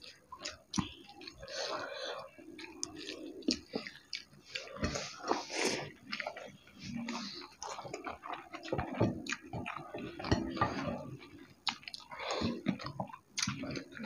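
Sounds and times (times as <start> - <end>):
people chewing food: 0.0 - 14.0.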